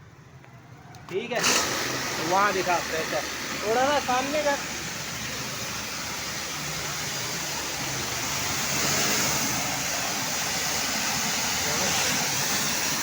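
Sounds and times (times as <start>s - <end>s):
pressure washer water jet hissing: 1.1s - 13.0s.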